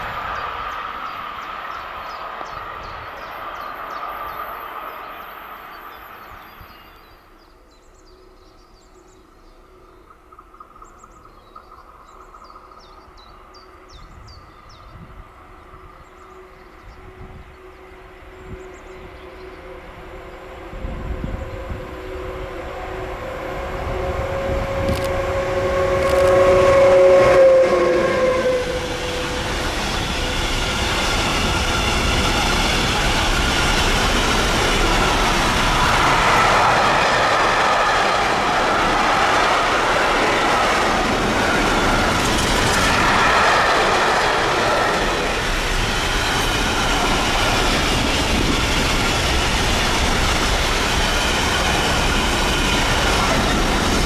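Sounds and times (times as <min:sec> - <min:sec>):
train wheels rumbling on rail: 0:00.0 - 0:07.4, 0:09.0 - 0:54.0.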